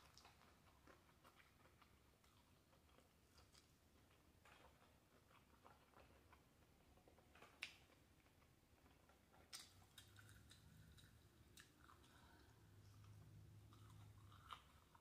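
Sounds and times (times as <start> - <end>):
soft chewing clicks: 0.0 - 15.0.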